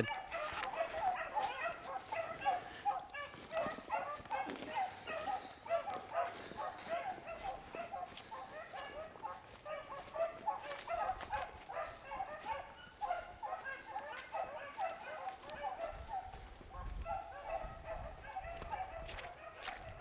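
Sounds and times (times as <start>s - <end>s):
hounds baying: 0.0s - 20.0s.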